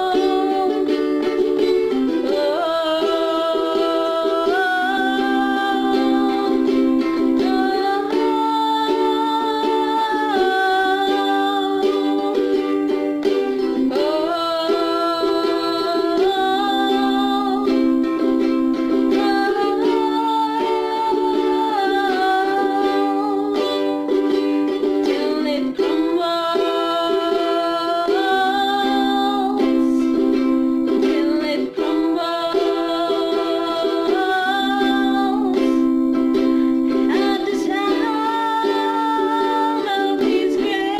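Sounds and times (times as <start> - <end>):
slow ukulele music: 0.0 - 40.9.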